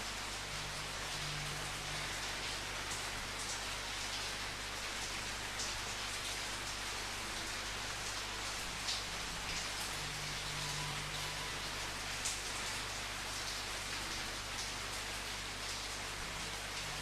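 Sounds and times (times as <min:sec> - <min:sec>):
louder raindrops: 0:00.0 - 0:17.0
steady rain: 0:00.0 - 0:17.0.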